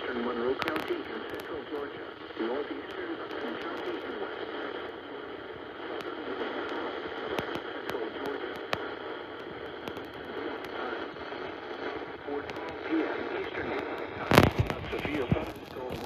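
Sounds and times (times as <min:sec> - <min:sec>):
crackling clicks: 0:00.0 - 0:16.0
radio static hiss: 0:00.0 - 0:16.0.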